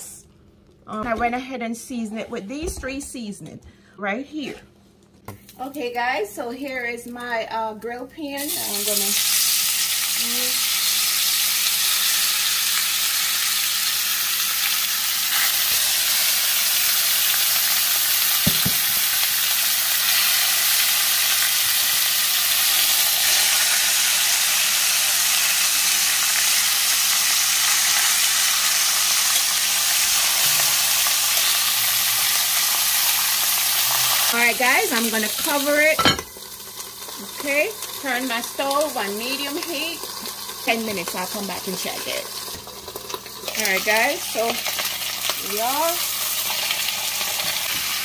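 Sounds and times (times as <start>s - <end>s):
chicken sizzling in a grill pan: 7.7s - 48.0s.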